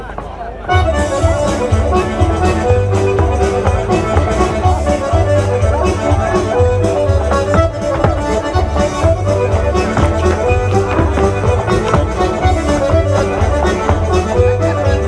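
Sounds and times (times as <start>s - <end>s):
traditional dance music from a band: 0.1s - 15.0s.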